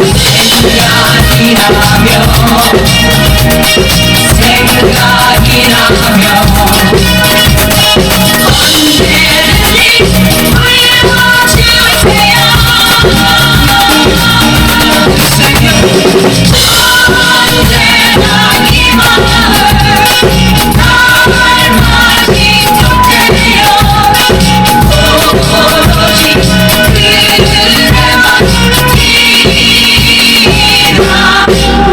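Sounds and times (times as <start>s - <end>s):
drum kit playing a beat: 0.0s - 31.9s
pop song with singing: 0.0s - 31.9s.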